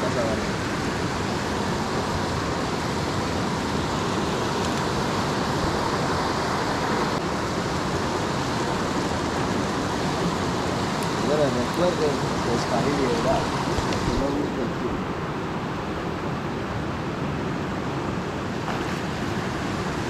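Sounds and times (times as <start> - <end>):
creek water flowing: 0.0 - 20.0.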